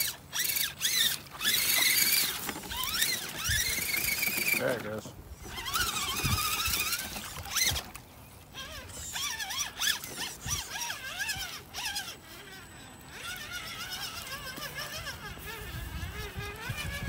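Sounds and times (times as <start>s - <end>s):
rc car electric motor whining: 0.0s - 17.0s.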